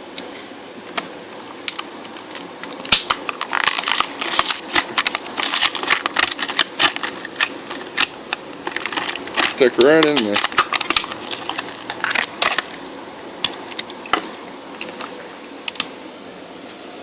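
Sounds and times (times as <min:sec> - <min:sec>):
plastic blister pack crackling: 0:01.4 - 0:15.2.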